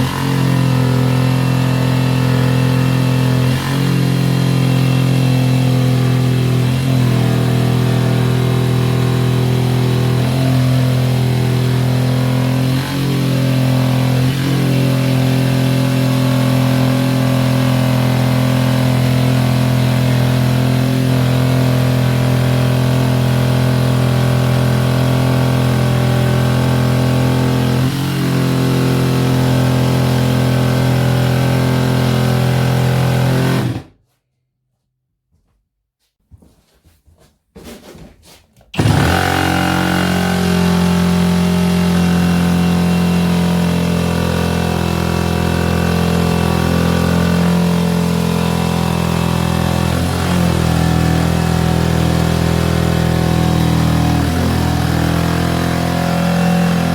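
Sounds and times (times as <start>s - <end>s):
jigsaw cutting worktop: 0.0s - 34.0s, 38.8s - 56.9s.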